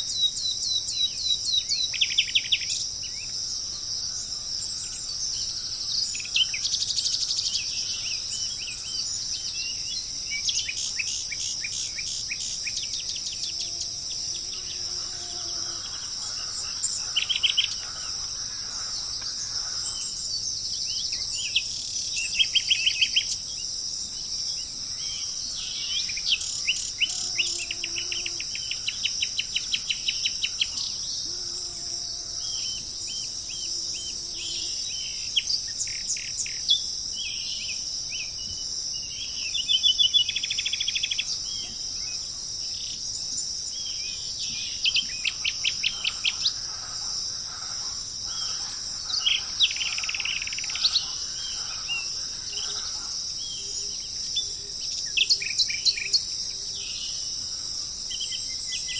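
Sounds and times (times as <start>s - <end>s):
songbirds singing: 0.0s - 58.9s
high-pitched insect drone: 0.9s - 58.9s.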